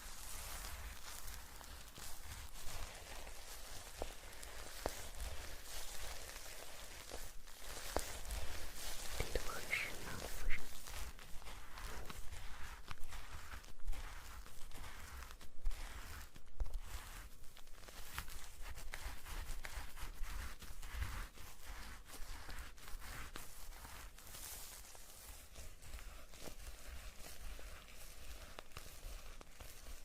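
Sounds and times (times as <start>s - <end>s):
soft scratchy rustle: 0.0s - 30.0s.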